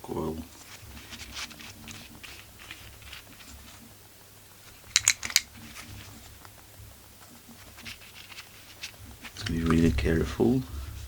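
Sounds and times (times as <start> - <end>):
faint shuffling of parts: 0.0 - 11.0.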